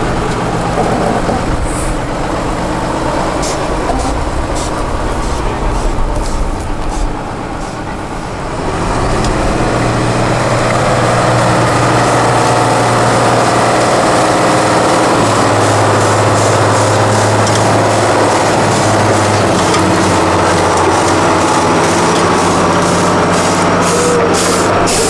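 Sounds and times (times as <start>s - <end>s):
truck diesel engine under load: 0.0s - 25.0s.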